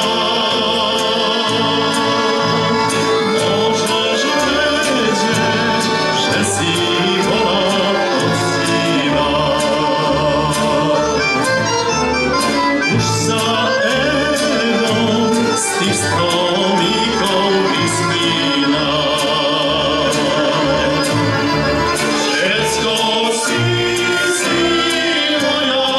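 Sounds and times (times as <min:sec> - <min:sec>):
accordions: 0:00.0 - 0:25.9
fiddle: 0:00.0 - 0:25.9.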